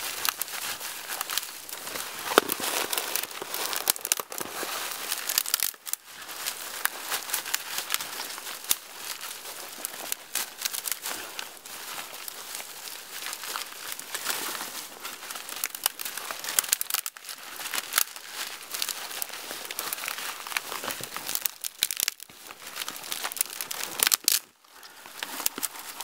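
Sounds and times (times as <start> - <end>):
dry twigs crackling and snapping: 0.0 - 26.0.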